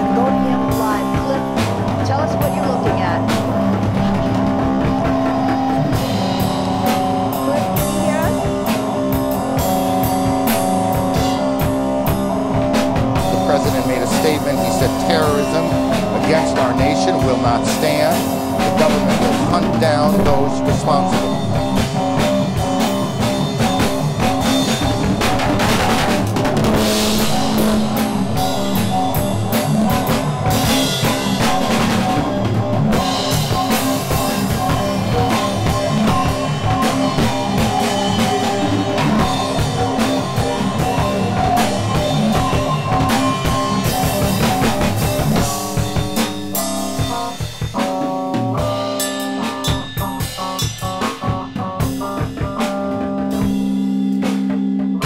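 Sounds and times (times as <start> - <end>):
rock music with drums and guitar: 0.0 - 55.0.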